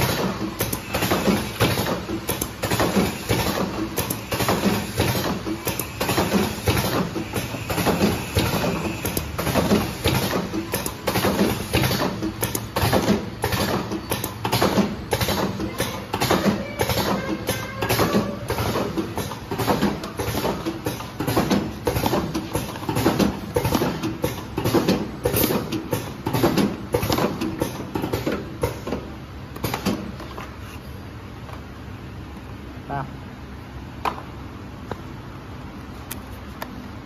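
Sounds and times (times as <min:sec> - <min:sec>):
machine clattering: 0:00.0 - 0:30.1.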